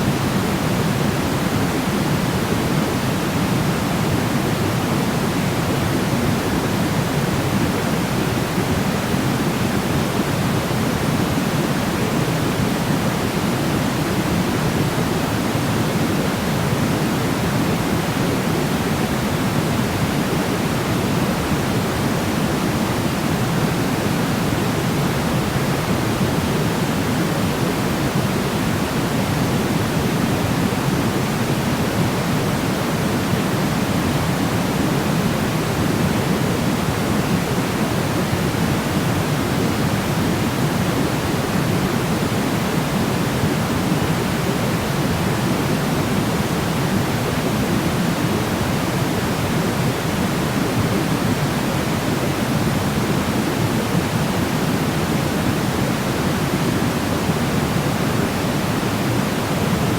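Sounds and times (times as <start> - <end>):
low white noise rush: 0.0 - 59.9.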